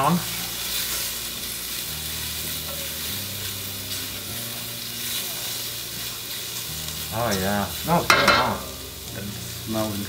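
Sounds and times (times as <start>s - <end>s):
mushrooms sizzling in oil: 0.0s - 10.0s
spatula stirring in pan: 0.6s - 9.1s.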